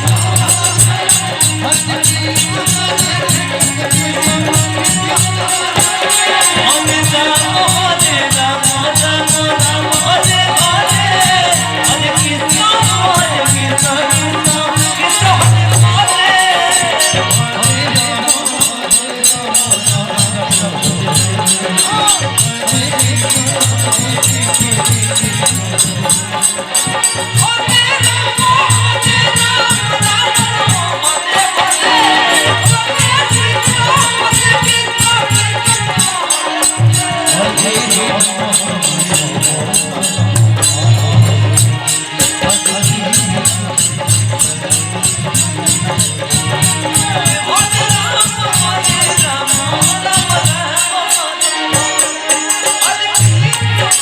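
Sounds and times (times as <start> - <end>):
high-pitched clashing percussion: 0.0 - 54.0
people singing: 0.0 - 54.0.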